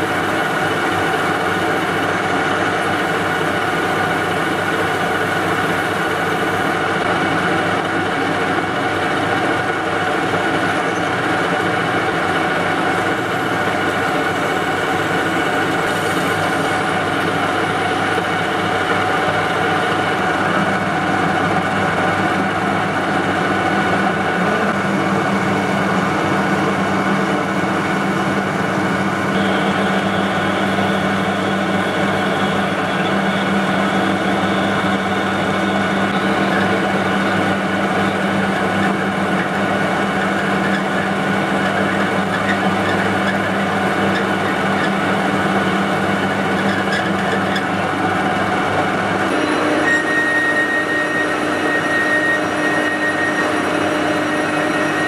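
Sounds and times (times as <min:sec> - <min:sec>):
metal lathe drilling hum: 0:00.0 - 0:55.0.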